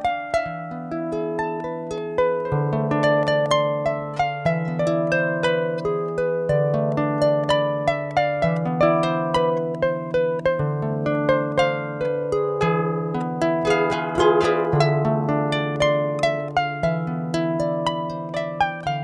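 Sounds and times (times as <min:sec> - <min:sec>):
harp playing plucked notes: 0:00.0 - 0:19.0.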